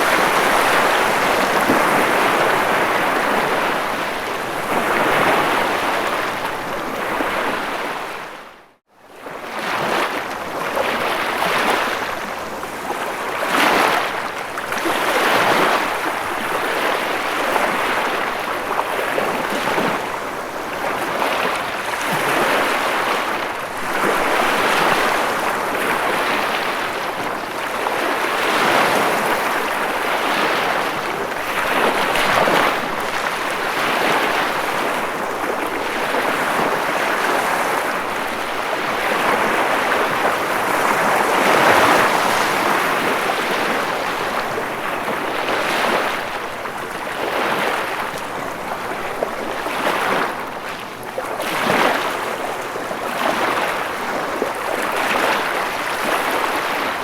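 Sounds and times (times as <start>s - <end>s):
ocean waves washing: 0.0s - 8.3s, 9.5s - 57.0s.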